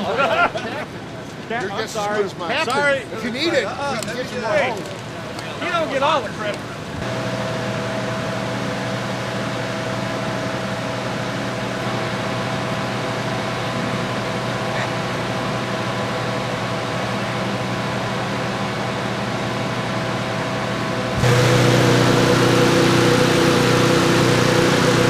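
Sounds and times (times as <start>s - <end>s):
engine running steadily: 3.9s - 25.0s.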